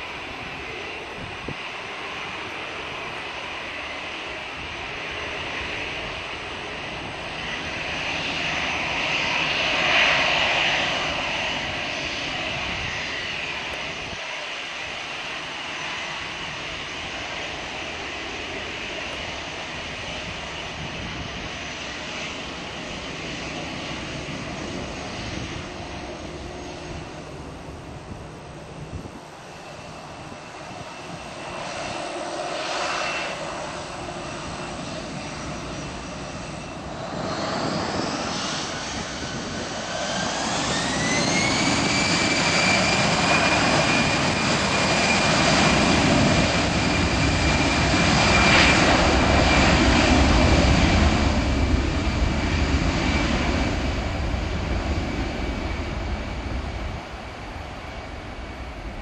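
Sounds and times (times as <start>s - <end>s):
jet engine roar: 0.0s - 59.0s
jet engine whine rising: 0.0s - 59.0s.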